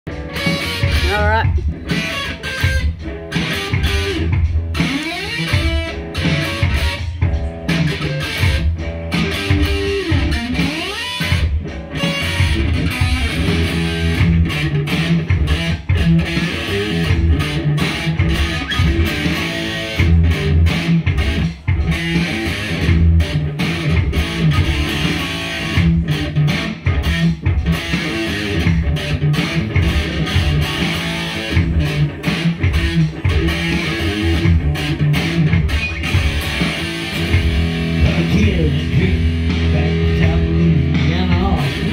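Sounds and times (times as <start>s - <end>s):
electric guitar riffing: 0.1s - 41.9s.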